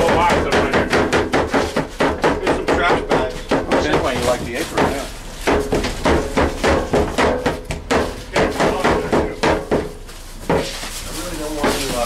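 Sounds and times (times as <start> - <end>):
cleaver chopping meat on wooden board: 0.0 - 10.7.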